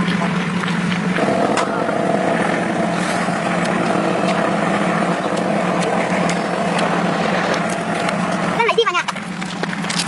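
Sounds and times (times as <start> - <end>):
machine humming: 0.0 - 8.6.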